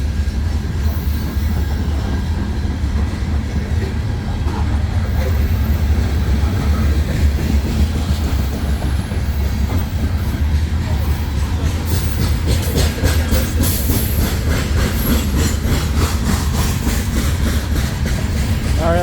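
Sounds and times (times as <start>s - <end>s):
freight train rolling past: 0.0s - 19.0s
wheels clicking over rail joints: 1.8s - 19.0s.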